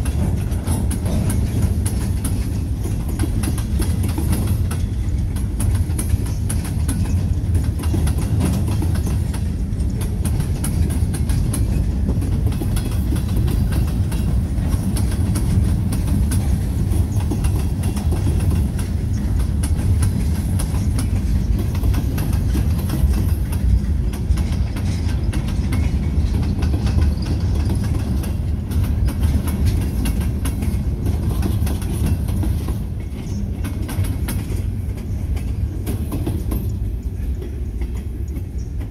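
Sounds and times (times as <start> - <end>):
freight train wheels rumbling on rail: 0.0 - 38.9
wheel clicks on rail joints: 0.0 - 38.9.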